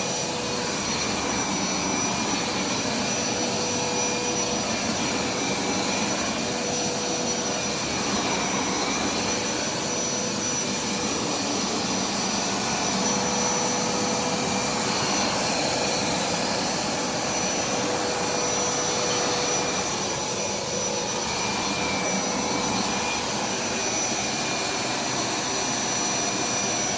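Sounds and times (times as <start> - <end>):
carpet cleaner motor running: 0.0 - 26.9.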